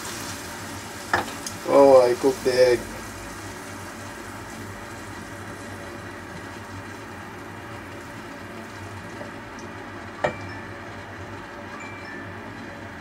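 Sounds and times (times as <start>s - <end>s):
food simmering in a pan: 0.0s - 11.6s.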